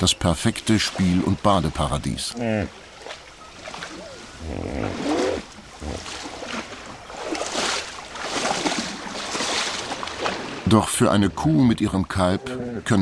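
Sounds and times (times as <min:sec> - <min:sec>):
hippos splashing in water: 0:00.0 - 0:13.0.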